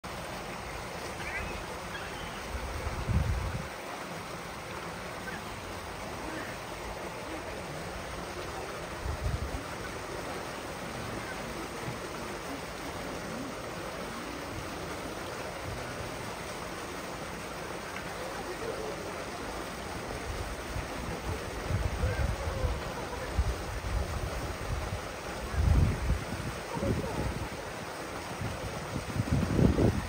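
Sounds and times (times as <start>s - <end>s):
water rushing: 0.0s - 30.0s
faint voices: 4.9s - 30.0s.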